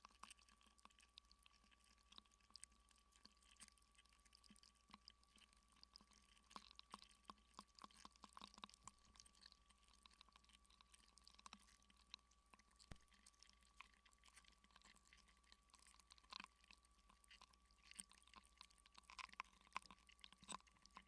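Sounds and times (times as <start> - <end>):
faint clicks and crackles: 0.0 - 21.0.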